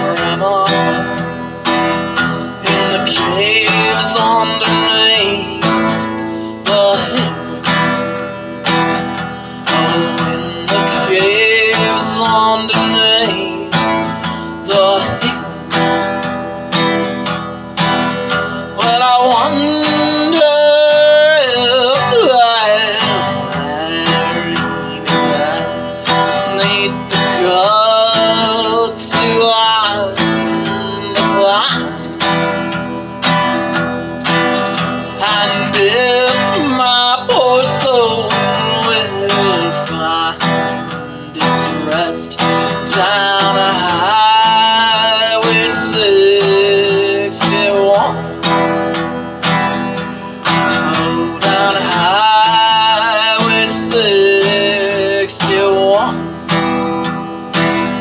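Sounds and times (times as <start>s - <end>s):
woman singing country song: 0.0s - 16.8s, 18.2s - 58.0s
acoustic guitar strumming: 0.0s - 58.0s.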